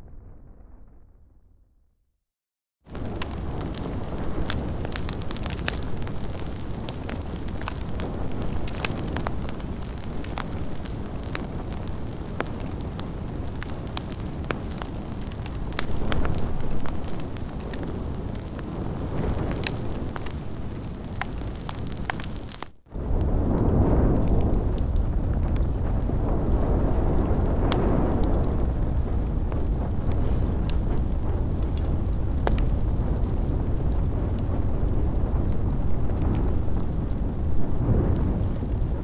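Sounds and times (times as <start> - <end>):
fire crackling and popping: 2.9 - 39.0.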